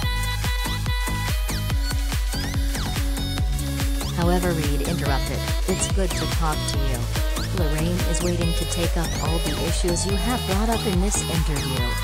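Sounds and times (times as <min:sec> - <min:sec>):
electronic music with driving beat: 0:00.0 - 0:12.0.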